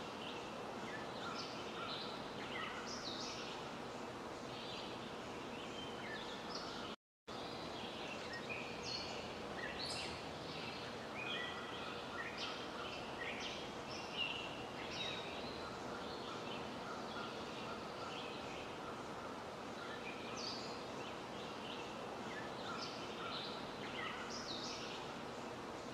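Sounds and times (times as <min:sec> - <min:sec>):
background hiss: 0:00.0 - 0:25.9
small birds chirping: 0:00.0 - 0:25.9.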